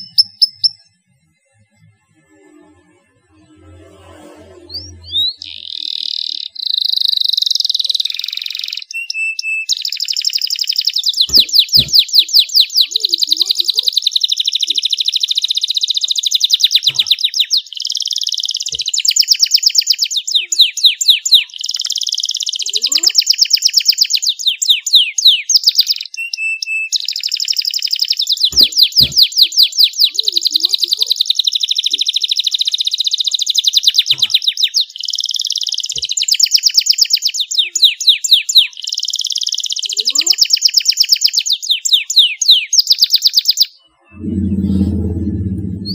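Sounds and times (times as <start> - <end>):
canary singing trills: 0.0 - 1.0, 4.6 - 45.9.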